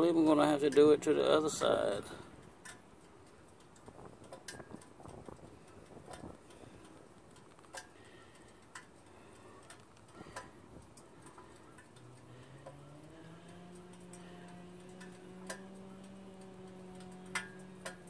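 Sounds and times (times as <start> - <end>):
hot engine ticking: 0.0 - 18.0.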